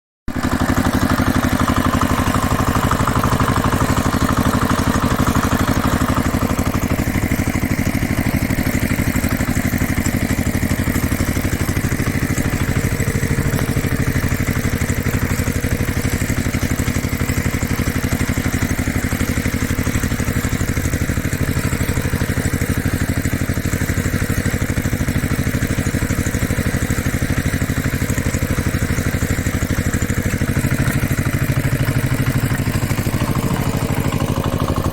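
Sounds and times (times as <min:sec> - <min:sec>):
engine idling: 0:00.3 - 0:34.9.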